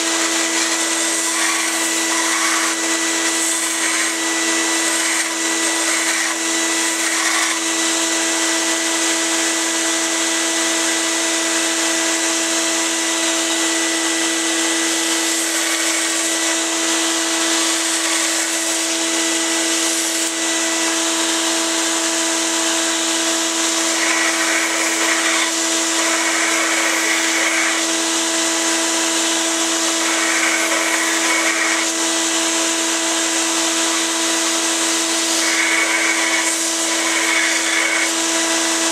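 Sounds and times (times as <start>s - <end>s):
steel grinding on sanding belt: 0.0s - 7.9s, 13.5s - 21.5s, 23.5s - 38.9s
belt sander motor hum: 0.0s - 38.9s.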